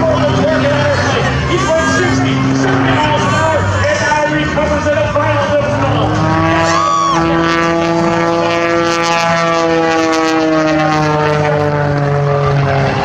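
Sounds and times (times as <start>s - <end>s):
propeller airplane engine droning: 0.0s - 13.0s.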